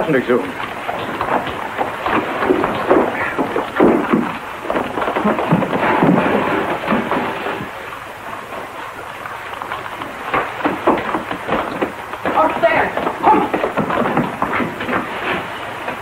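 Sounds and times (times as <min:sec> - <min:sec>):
heavy rain: 0:00.0 - 0:16.0
low rumbles: 0:00.0 - 0:16.0
sharp knocks: 0:00.5 - 0:08.0, 0:09.7 - 0:16.0.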